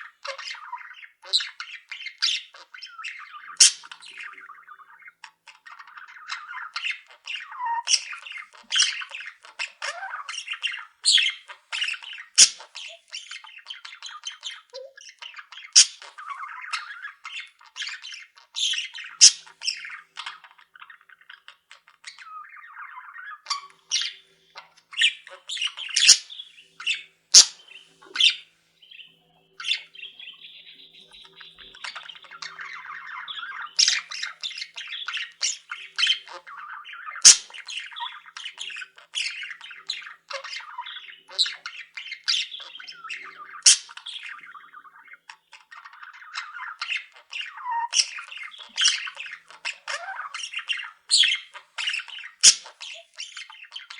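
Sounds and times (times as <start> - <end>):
flock of small birds chattering: 0.0 - 53.9
sharp bird calls: 0.0 - 53.9.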